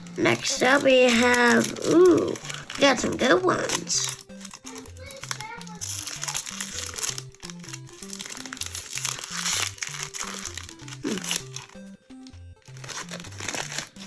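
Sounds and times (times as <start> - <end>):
foil wrapper crinkling: 0.0 - 14.0.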